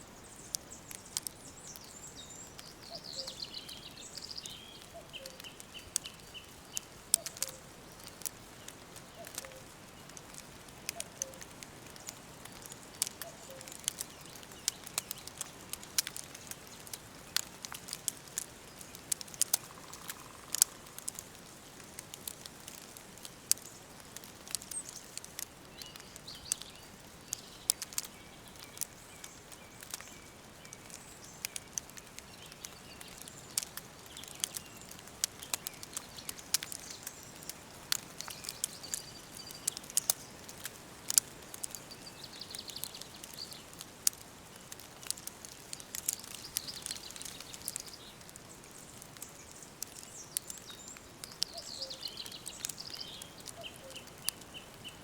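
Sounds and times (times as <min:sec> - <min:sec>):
small birds chirping: 0:00.0 - 0:55.0
wood fire crackling and popping: 0:00.0 - 0:55.0.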